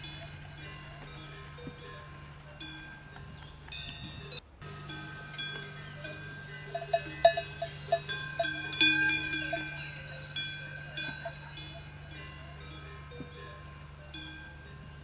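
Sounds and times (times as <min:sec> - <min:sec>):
bells clanking and ringing: 0:00.0 - 0:15.0
steady low hum: 0:00.0 - 0:15.0.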